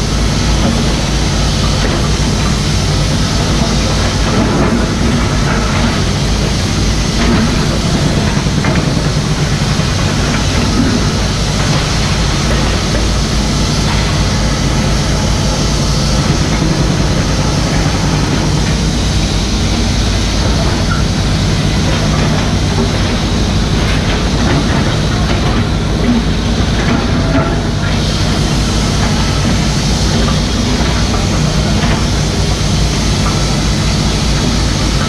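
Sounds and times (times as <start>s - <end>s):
diesel engine running under load: 0.0s - 35.0s
hydraulic working noise: 0.0s - 35.0s.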